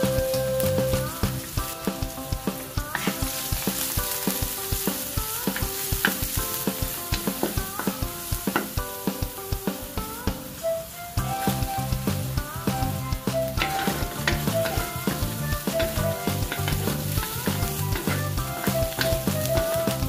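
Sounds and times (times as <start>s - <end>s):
sauce sizzling in a wok: 0.0s - 20.0s.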